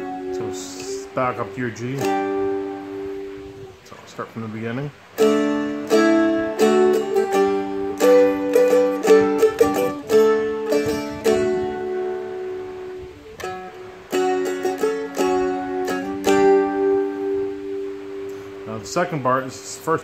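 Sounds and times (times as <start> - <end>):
plucked and strummed dulcimer: 0.0 - 3.5, 5.2 - 20.0.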